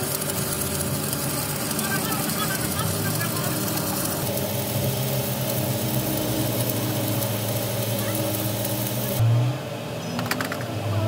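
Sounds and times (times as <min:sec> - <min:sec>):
motor humming: 0:00.0 - 0:09.3.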